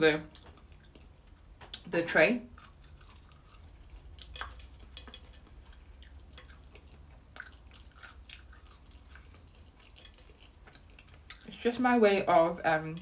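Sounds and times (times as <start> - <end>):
low steady hum: 0.0 - 13.0
chewing fries: 0.3 - 11.7.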